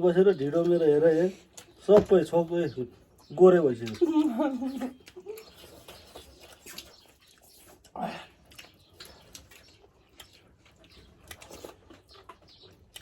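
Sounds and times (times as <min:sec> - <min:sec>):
chewing with wet clicks: 0:00.4 - 0:02.2, 0:02.9 - 0:13.0.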